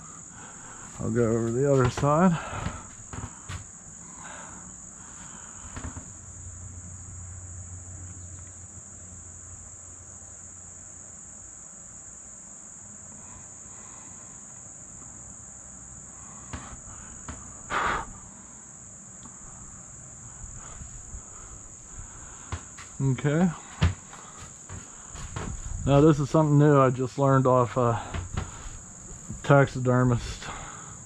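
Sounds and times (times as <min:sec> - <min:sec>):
faint low hum: 0:00.0 - 0:31.0
insects chirring: 0:00.0 - 0:31.0.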